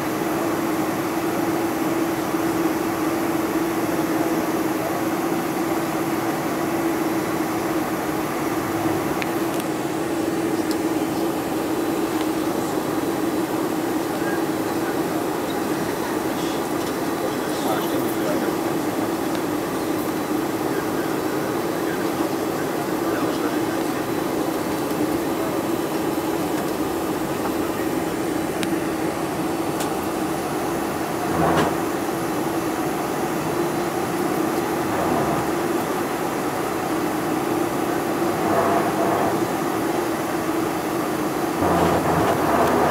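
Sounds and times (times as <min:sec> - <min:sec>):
airplane cabin engine drone: 0:00.0 - 0:42.9.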